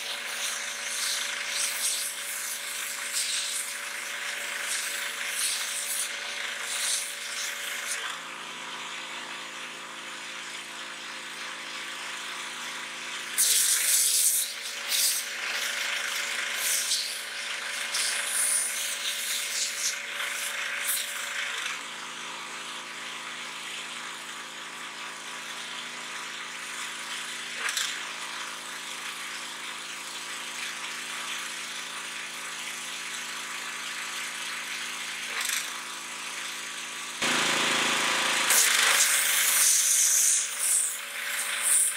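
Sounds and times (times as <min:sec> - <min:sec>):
pressure washer humming: 0:00.0 - 0:41.9.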